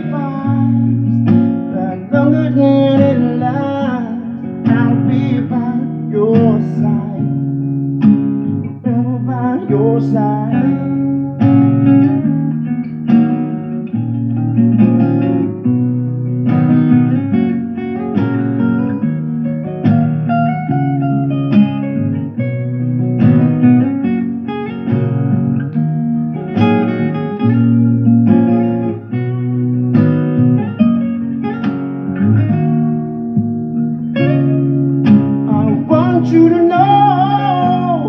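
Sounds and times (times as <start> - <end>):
plucked guitar notes and chords: 0.0 - 38.0.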